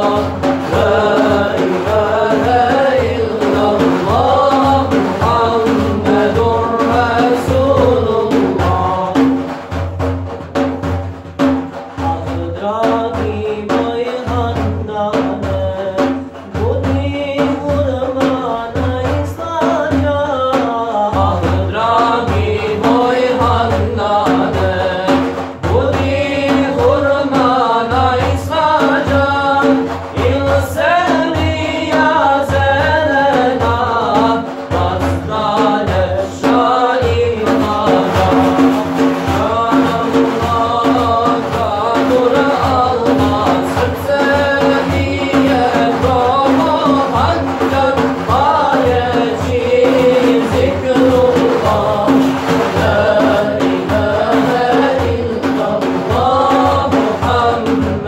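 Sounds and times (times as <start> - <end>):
man singing a devotional hymn: 0.0 - 10.0, 11.7 - 58.0
frame drum beats: 0.0 - 58.0.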